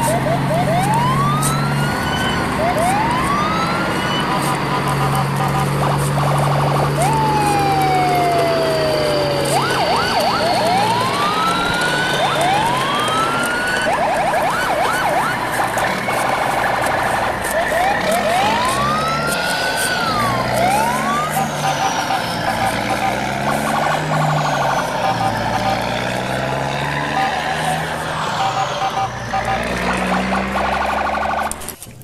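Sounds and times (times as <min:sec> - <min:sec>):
siren yelping sweeps: 0:00.0 - 0:31.8
sirens wailing: 0:00.0 - 0:31.9
low engine hum: 0:00.0 - 0:32.0.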